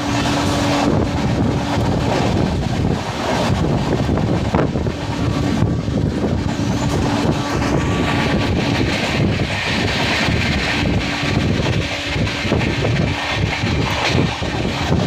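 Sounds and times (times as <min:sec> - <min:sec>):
rushing air: 0:00.0 - 0:15.0
train wheels rumbling on rails: 0:00.0 - 0:15.0.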